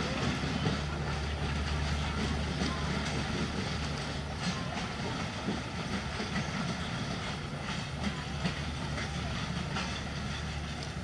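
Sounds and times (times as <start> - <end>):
train coaches rumbling on rails: 0.0 - 11.0
train wheel clicks: 0.0 - 11.0.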